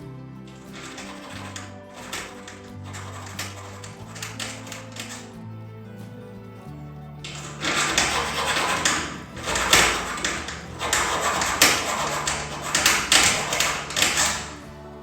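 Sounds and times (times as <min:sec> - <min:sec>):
hacksaw sawing through metal: 0:00.5 - 0:05.3, 0:07.2 - 0:14.8.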